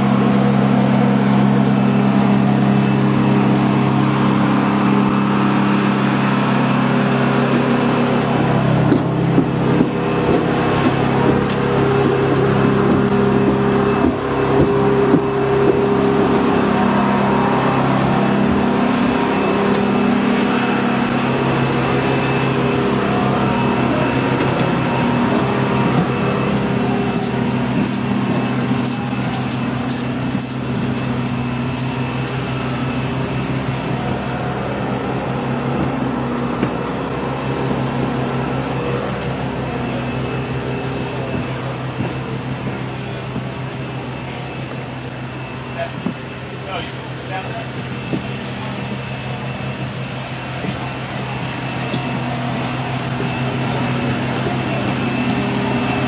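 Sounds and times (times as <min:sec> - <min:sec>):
machine hum with low tones: 0:00.0 - 0:56.0.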